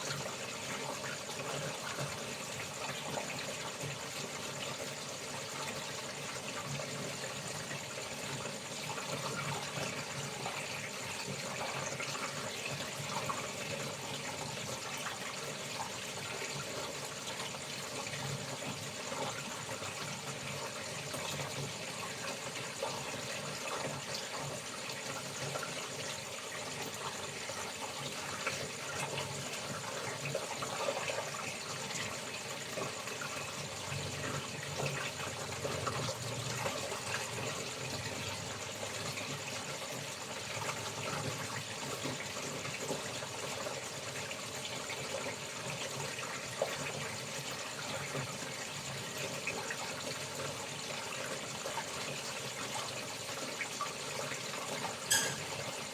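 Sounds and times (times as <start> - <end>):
insect chorus: 0.0 - 55.9
water running and splashing: 0.0 - 55.9.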